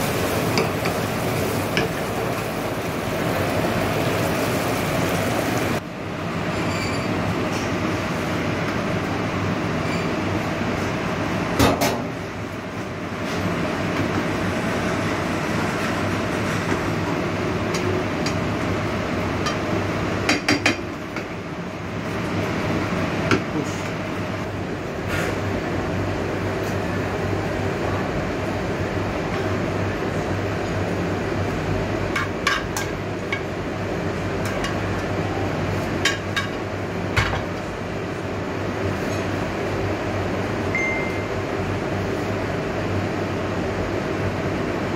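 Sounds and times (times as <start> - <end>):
kitchen range and extraction hum: 0.0 - 44.9.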